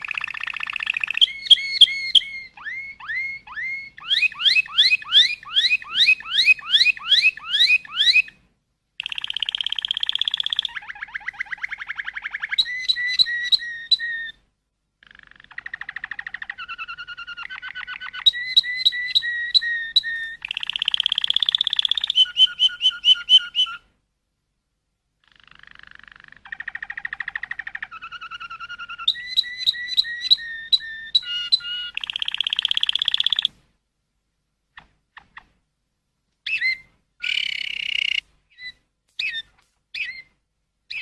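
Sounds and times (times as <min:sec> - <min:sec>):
songbird singing: 0:00.0 - 0:23.9, 0:25.2 - 0:33.6, 0:36.4 - 0:41.0.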